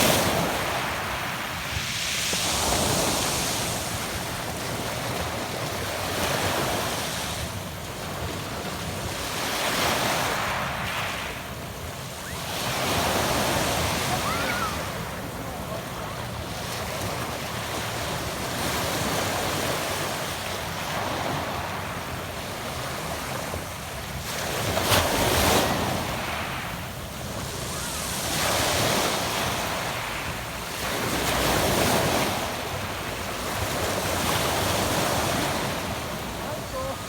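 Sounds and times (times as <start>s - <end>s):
waves on a pebble beach: 0.0s - 37.0s.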